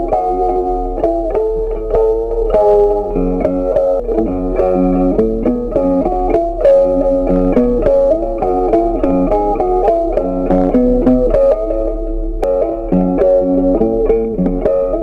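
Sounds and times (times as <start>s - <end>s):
plucked guitar-like instrumental music: 0.0s - 15.0s.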